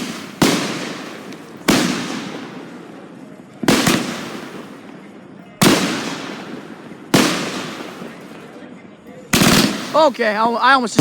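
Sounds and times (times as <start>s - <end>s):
fireworks bangs with echoing rumble: 0.0s - 8.6s, 9.3s - 11.0s.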